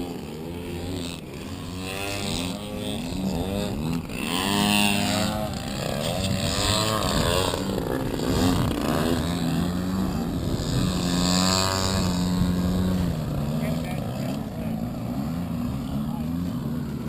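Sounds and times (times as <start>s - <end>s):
model airplane engines passing: 0.0s - 17.0s
steady engine hum: 0.0s - 17.0s.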